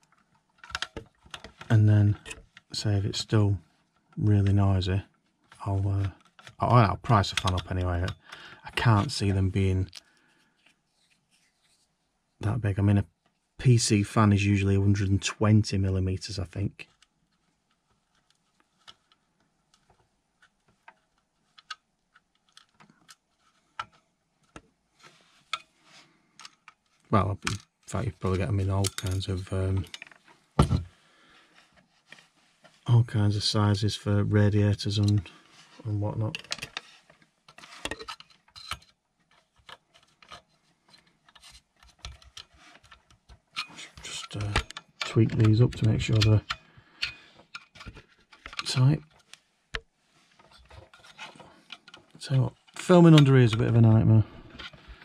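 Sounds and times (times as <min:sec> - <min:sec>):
light clicks of metal parts: 0:00.0 - 0:10.8, 0:16.4 - 0:30.8, 0:31.8 - 0:55.0.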